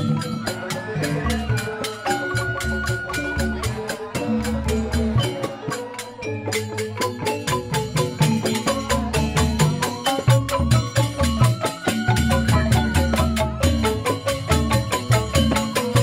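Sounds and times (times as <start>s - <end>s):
bamboo xylophones playing: 0.0s - 16.0s.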